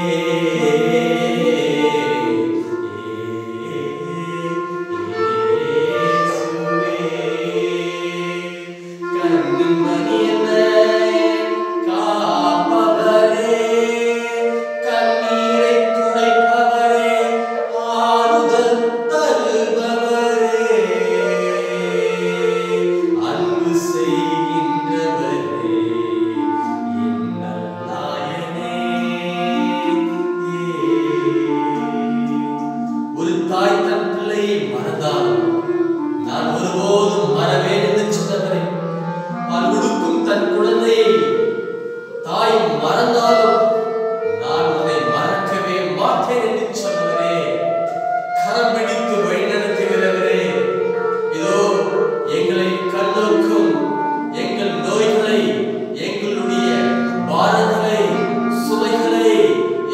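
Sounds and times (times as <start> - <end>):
clarinet playing: 0.0 - 59.9
person singing a hymn: 0.0 - 59.9.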